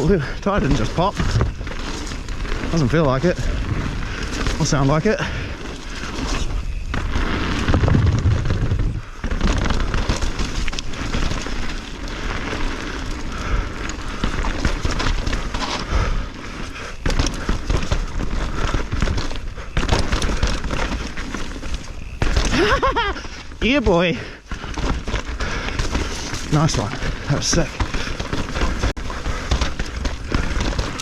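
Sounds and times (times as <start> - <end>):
bike clattering over bumps: 0.0 - 31.0
bike tyres rumbling over dirt: 0.0 - 31.0.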